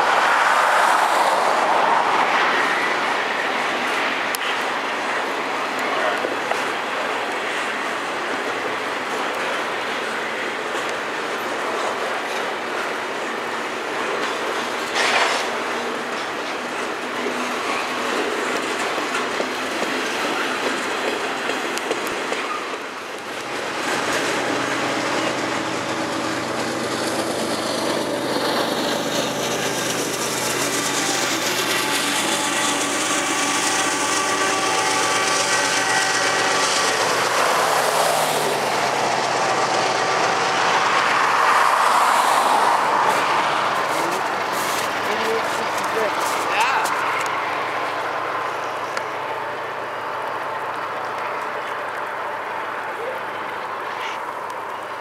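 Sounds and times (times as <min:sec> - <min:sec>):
diesel locomotive drone: 0:00.0 - 0:55.0
train wheels rumbling on rails: 0:00.0 - 0:55.0.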